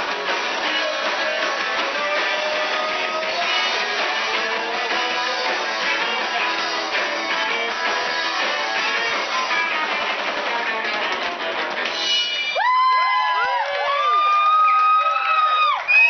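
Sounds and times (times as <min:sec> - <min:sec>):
live band with guitars and drums: 0:00.0 - 0:13.6.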